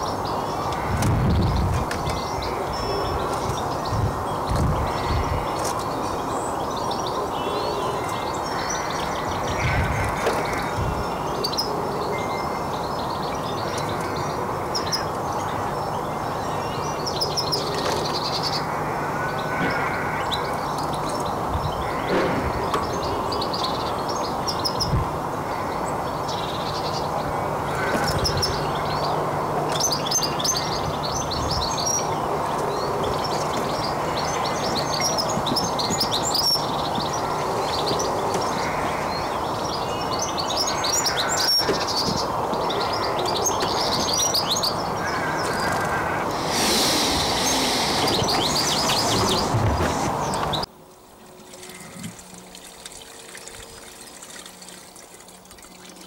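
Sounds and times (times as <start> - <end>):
small birds chirping and singing: 0.0 - 50.7.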